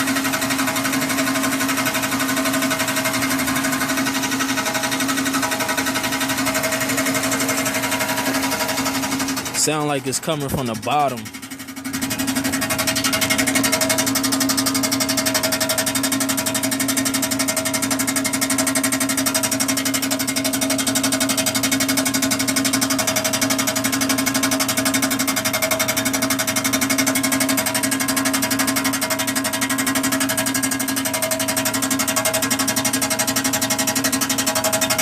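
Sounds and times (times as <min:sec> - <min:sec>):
fast rattle: 0:00.0 - 0:09.6, 0:10.4 - 0:35.0
car engine running: 0:00.0 - 0:35.0.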